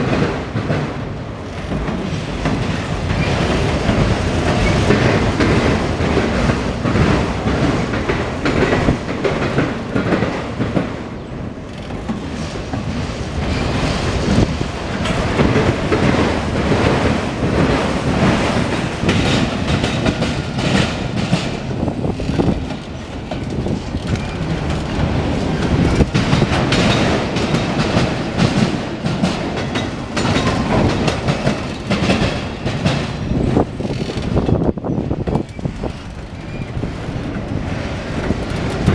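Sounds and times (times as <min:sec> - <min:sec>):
freight train rolling past: 0:00.0 - 0:38.9
train wheels clacking over rail joints: 0:00.0 - 0:38.9.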